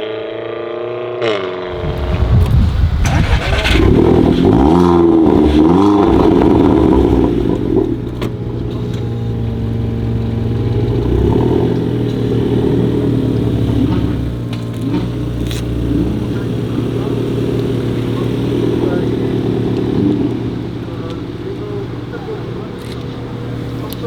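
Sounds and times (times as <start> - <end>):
car engine revving: 1.6 - 24.0.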